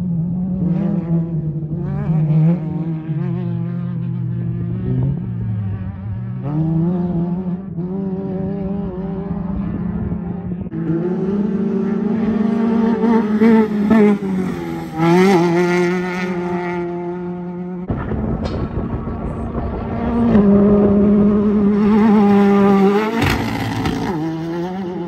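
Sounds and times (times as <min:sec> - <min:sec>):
race car engine revving: 0:00.0 - 0:25.0.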